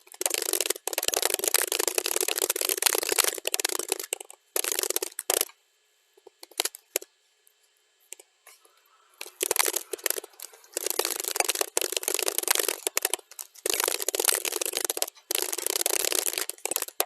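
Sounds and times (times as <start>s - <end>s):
keyboard typing: 0.0s - 5.5s, 6.4s - 7.0s, 8.1s - 17.0s.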